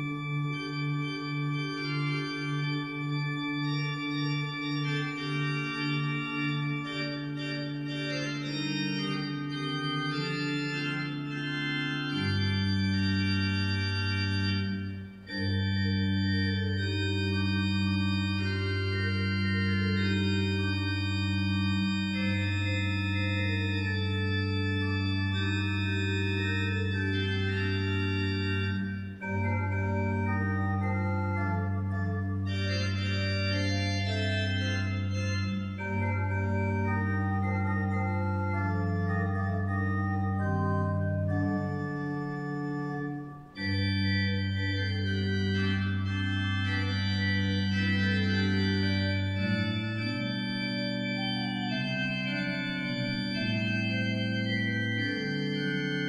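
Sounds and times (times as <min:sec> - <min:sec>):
low organ pedal note: 0:00.0 - 0:56.0
organ chords: 0:00.0 - 0:56.0.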